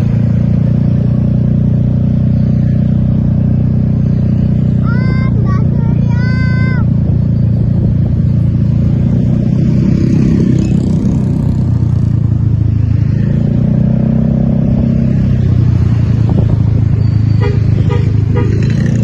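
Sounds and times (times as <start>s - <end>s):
heavy vehicle engine rumbling: 0.0s - 19.0s.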